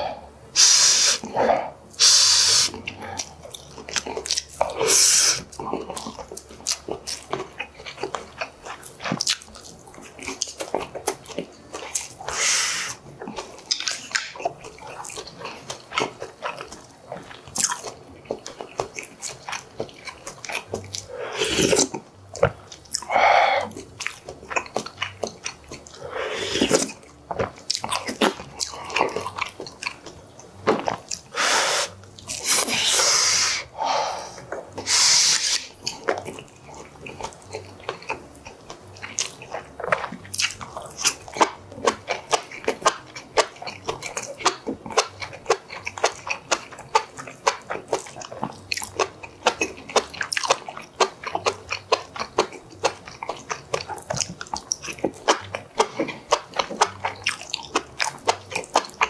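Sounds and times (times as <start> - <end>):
chewing and slurping: 0.0 - 59.0.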